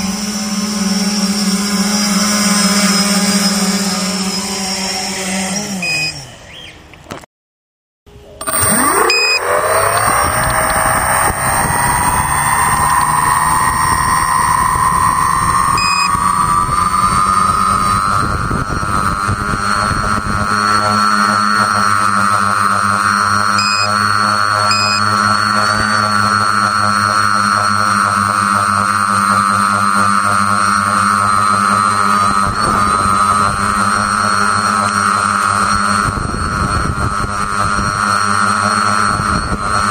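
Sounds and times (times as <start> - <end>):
drone motors whining: 0.0 - 7.2, 8.2 - 39.9.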